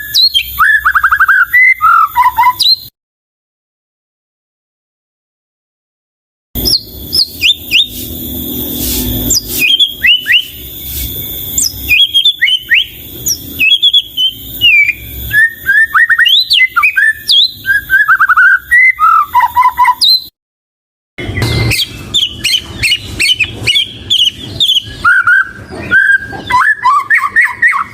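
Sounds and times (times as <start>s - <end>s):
songbird singing whistles and chirps: 0.0s - 2.9s, 6.6s - 20.3s, 21.2s - 27.9s.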